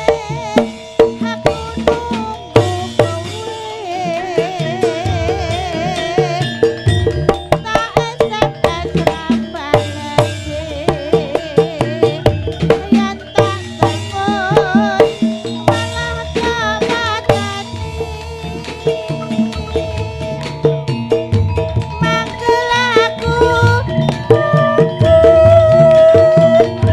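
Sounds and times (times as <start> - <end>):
gamelan music: 0.0 - 26.9
hand-drum strokes: 0.0 - 26.9.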